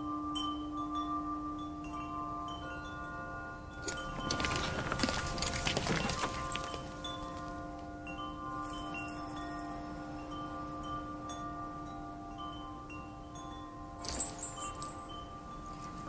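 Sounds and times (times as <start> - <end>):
high tinkling notes: 0.0 - 16.0.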